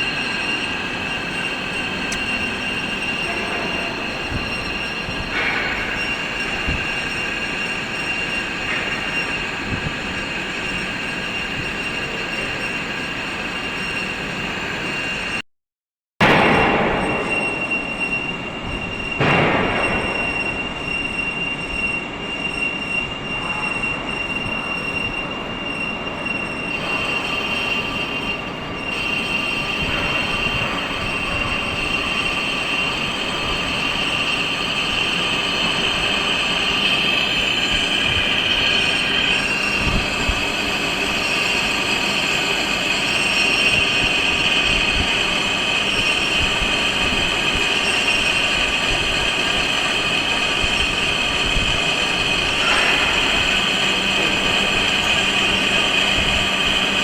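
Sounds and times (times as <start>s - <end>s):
lathe machining noise: 0.0s - 15.4s, 17.0s - 57.0s
metallic cutting tool squeal: 0.0s - 15.4s, 16.5s - 57.0s.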